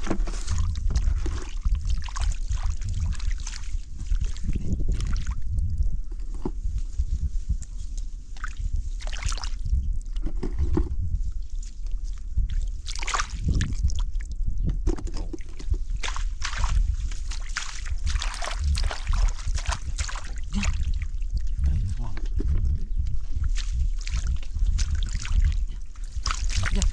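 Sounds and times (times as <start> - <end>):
steady low rumble: 0.0 - 26.9
water sloshing and splashing: 0.0 - 26.9.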